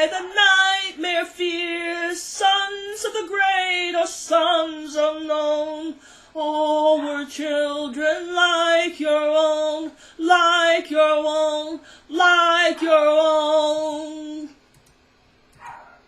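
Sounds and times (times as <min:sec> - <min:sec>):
person singing unaccompanied: 0:00.0 - 0:14.6.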